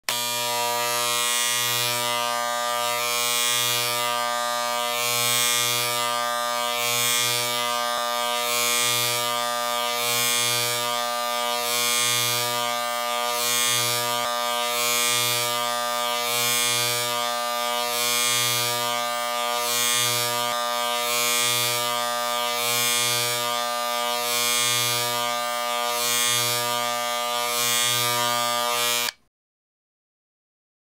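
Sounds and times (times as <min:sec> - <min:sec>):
electric shaver buzzing: 0:00.0 - 0:29.3.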